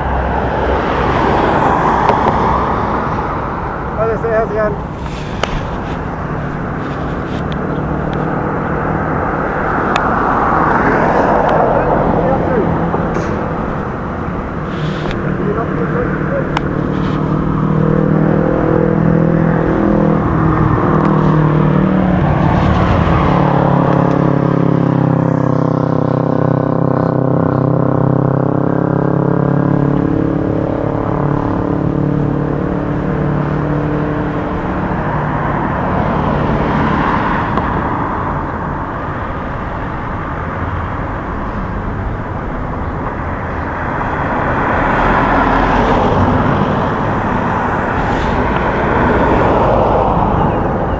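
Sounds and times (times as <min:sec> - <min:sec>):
engine hum: 0:00.0 - 0:50.9
vehicles passing: 0:00.0 - 0:50.9.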